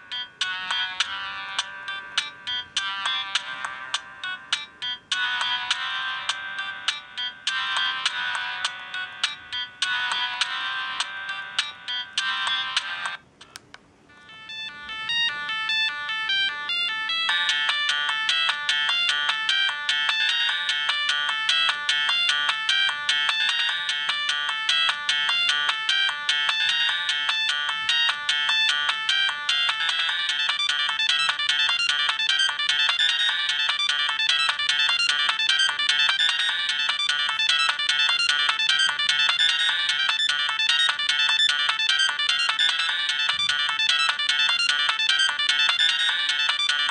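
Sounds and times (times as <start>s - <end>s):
electronic phone ringtone: 0.0s - 13.2s, 14.1s - 46.9s.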